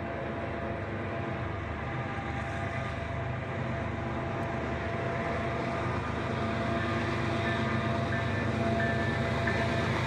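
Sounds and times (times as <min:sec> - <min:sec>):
diesel locomotive rumble: 0:00.0 - 0:10.0.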